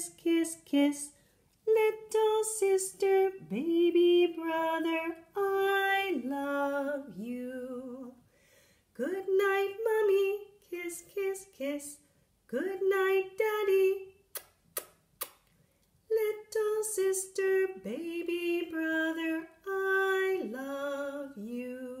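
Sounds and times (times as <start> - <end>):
woman singing: 0.0 - 8.2, 9.0 - 14.2, 16.1 - 22.0.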